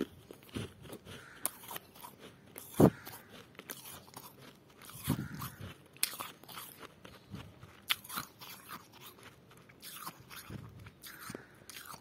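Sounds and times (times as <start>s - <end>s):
frost being chewed crunching: 0.0s - 12.0s.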